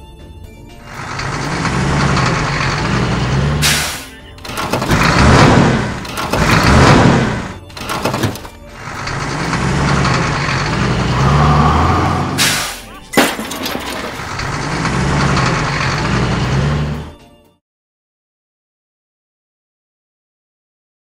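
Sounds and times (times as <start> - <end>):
cartoon truck engine rumble: 0.1 - 17.4.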